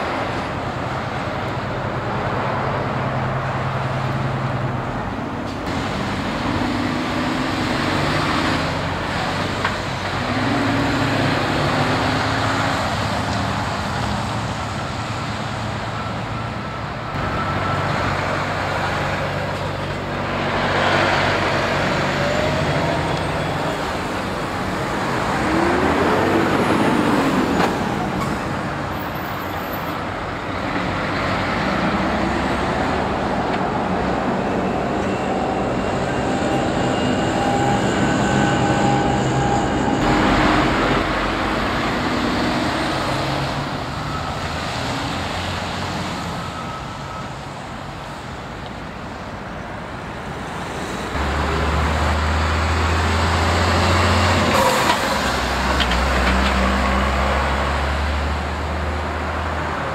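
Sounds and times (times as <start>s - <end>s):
lorry engines accelerating: 0.0s - 48.6s, 50.0s - 59.9s
cars passing: 0.0s - 59.9s.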